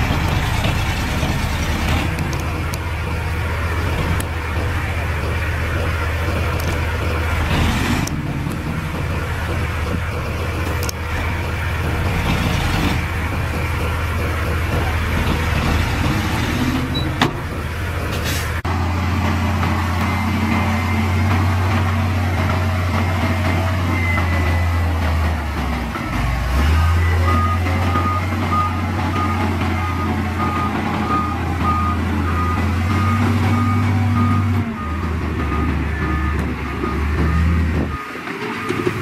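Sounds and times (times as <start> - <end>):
diesel engines droning: 0.0 - 39.0.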